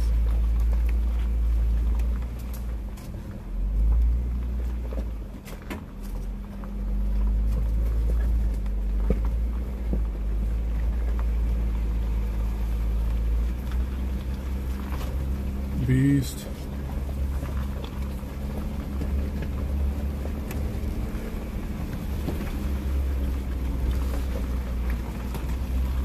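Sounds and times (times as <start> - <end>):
vehicle engine low rumble: 0.0 - 26.0.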